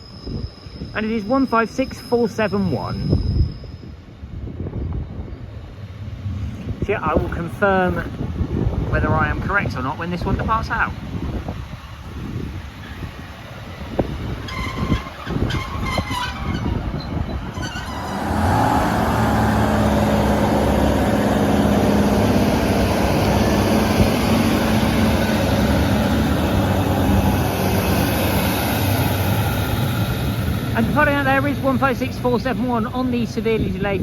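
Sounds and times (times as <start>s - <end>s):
diesel train engines running: 0.0s - 34.0s.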